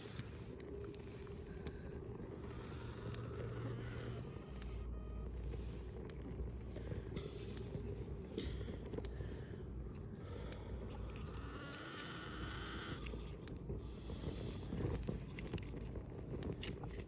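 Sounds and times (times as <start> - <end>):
fire crackling and snapping: 0.0 - 17.0.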